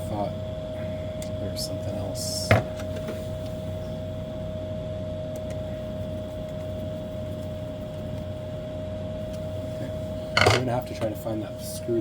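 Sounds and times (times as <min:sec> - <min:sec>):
electrical hum: 0:00.0 - 0:12.0
high-pitched whine: 0:00.0 - 0:12.0.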